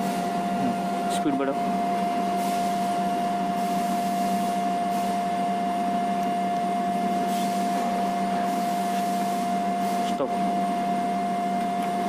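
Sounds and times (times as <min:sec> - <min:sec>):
low motor hum: 0:00.0 - 0:12.0
motor drive high whine: 0:00.0 - 0:12.0.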